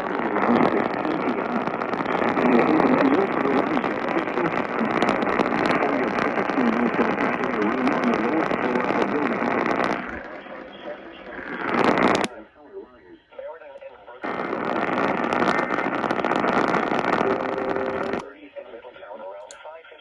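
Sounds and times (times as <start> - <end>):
radio static hissing: 0.0 - 20.0.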